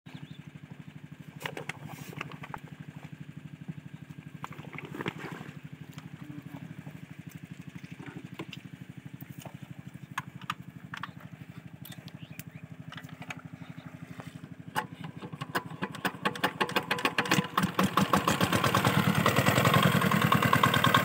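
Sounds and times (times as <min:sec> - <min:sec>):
diesel pump engine chugging: 0:00.1 - 0:21.0.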